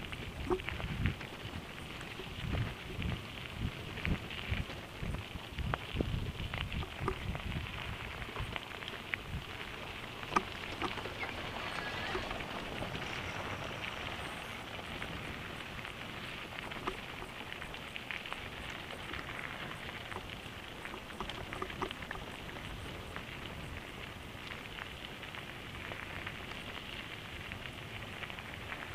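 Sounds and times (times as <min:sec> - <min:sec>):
bike tyres crunching on gravel: 0:00.0 - 0:28.9.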